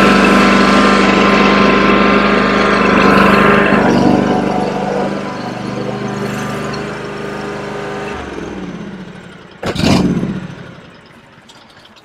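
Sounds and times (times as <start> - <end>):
mower engine running: 0.0 - 12.0.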